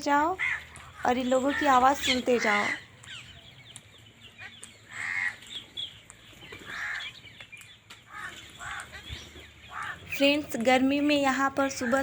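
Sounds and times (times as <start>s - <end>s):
birds chirping: 0.0s - 12.0s
loud bird calls: 0.0s - 12.0s.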